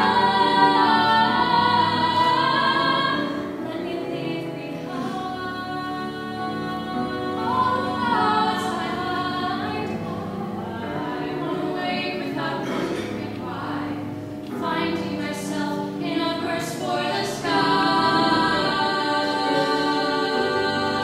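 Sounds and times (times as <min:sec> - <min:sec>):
women singing a slow duet: 0:00.0 - 0:21.0.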